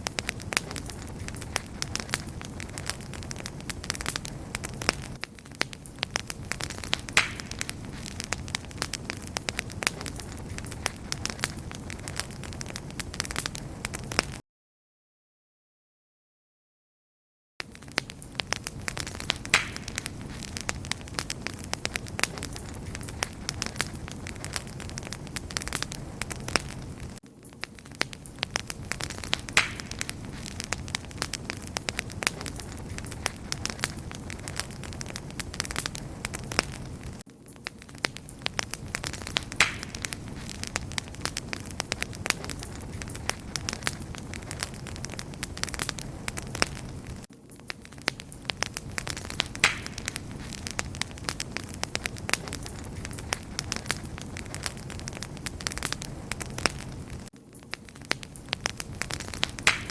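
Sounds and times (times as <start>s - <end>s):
low rushing of flame: 0.0s - 14.4s, 17.6s - 59.9s
wood fire crackling: 0.0s - 14.4s, 17.6s - 59.9s.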